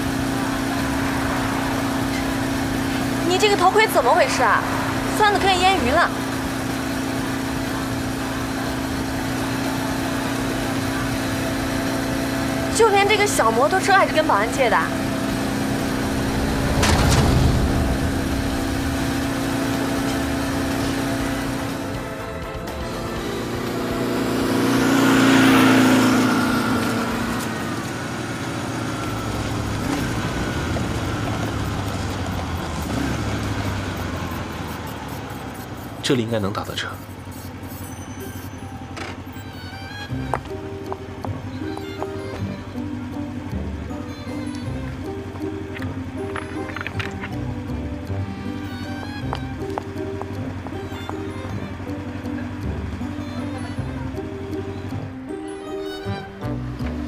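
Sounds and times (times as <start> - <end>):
road noise: 0.0 - 57.0
scooter engine humming: 0.0 - 57.0
street traffic noise: 0.0 - 57.0.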